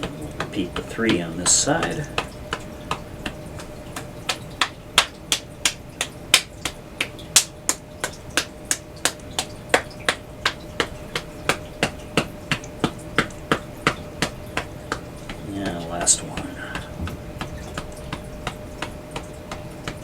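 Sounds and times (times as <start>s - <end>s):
hand tapping on the body: 0.0s - 20.0s.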